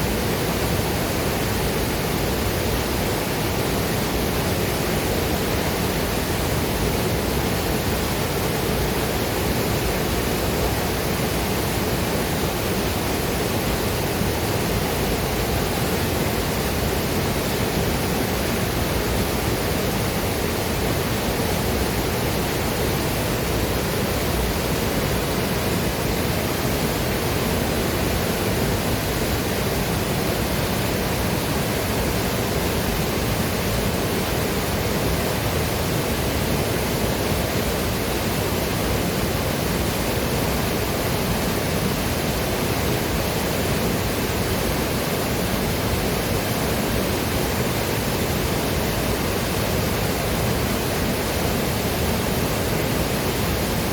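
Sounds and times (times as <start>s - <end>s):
waterfall and river rushing: 0.0s - 53.9s.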